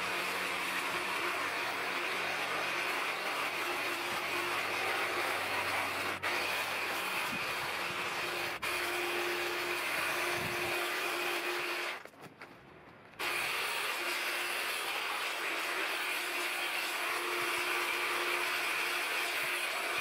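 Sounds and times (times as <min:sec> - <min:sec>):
hedge trimmer buzzing: 0:00.0 - 0:12.0, 0:13.2 - 0:20.0.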